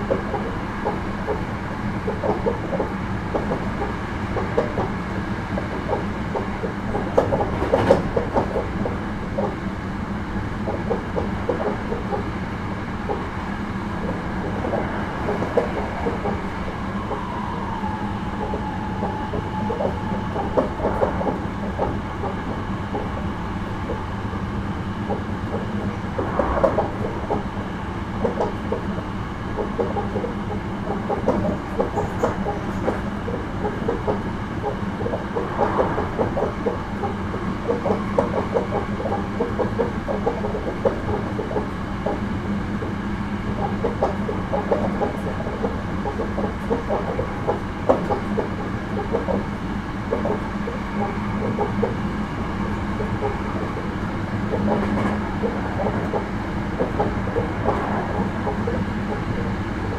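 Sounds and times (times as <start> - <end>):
faint motor whine: 0.0 - 59.9
train wheels rumbling on rail: 0.0 - 59.9.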